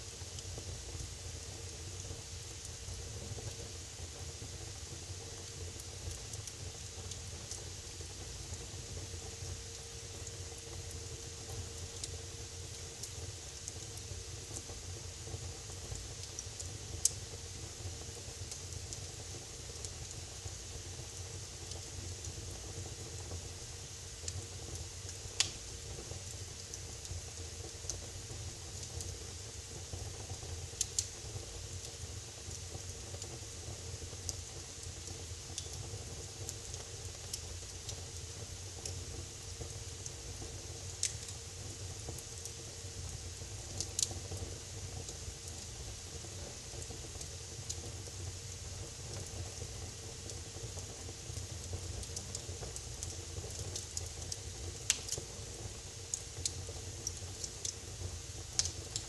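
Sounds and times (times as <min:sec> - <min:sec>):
fire hissing and rumbling: 0:00.0 - 0:59.0
fire crackling and popping: 0:00.1 - 0:59.0.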